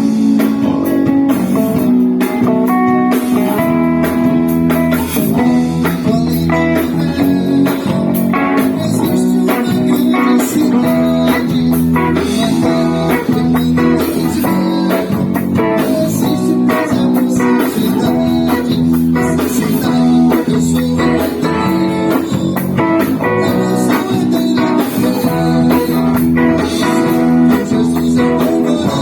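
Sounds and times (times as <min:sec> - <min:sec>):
bass guitar: 0:00.0 - 0:29.0
drum kit steady beat: 0:00.0 - 0:29.0
electric guitar: 0:00.0 - 0:29.0
keyboard: 0:00.0 - 0:29.0.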